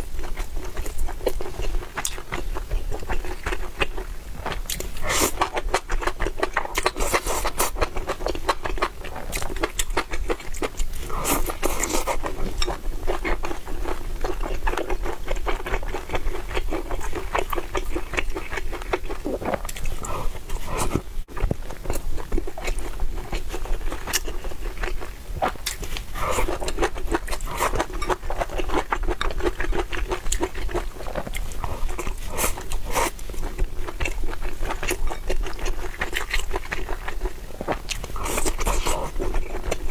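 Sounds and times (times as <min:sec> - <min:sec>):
wet chewing and smacking: 0:00.2 - 0:39.9.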